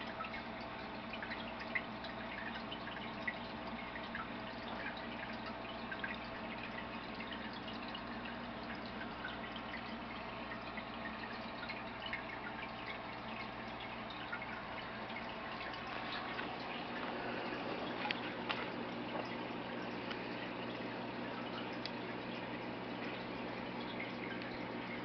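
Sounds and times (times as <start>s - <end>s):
aquarium water bubbling: 0.0s - 25.0s
low hum of tank equipment: 0.0s - 25.0s
small drips and pops: 0.0s - 25.0s.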